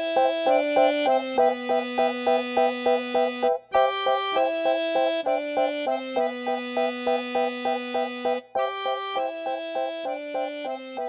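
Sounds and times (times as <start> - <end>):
instrumental music with pulsing chords: 0.0 - 11.0.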